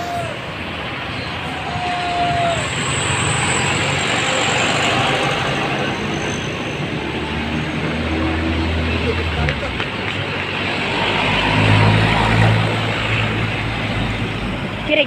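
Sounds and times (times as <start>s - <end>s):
bus driving by: 0.0s - 15.0s.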